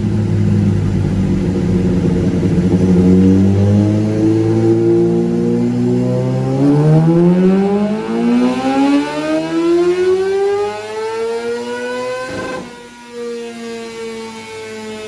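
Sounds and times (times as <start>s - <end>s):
motorcycle engine revving: 0.0s - 13.3s.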